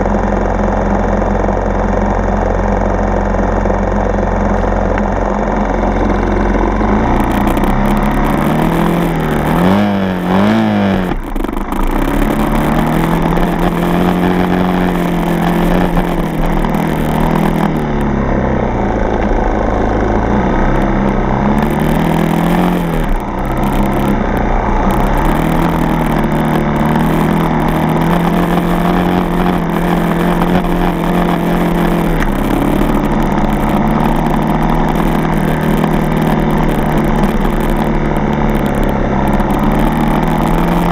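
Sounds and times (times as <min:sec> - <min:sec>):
dirt bike engine revving: 0:04.3 - 0:40.9.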